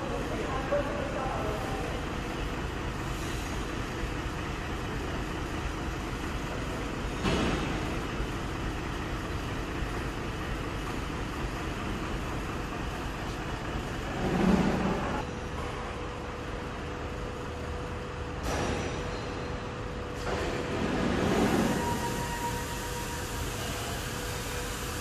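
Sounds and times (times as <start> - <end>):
vehicle road and engine noise: 1.3 - 22.1.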